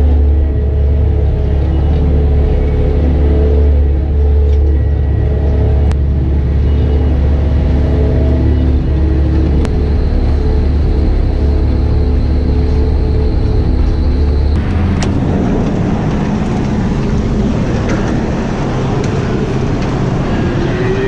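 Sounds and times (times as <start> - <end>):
farm machine engine running: 0.0 - 21.0.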